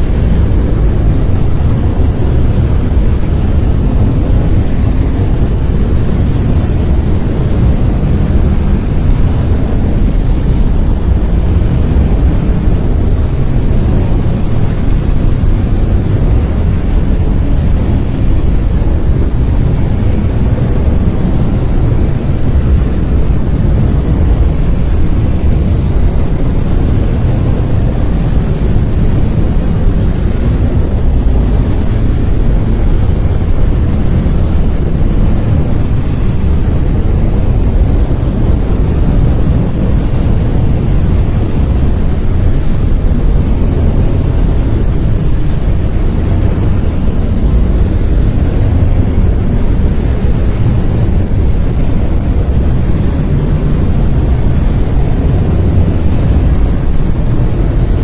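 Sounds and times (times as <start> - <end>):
brown noise: 0.0 - 58.0.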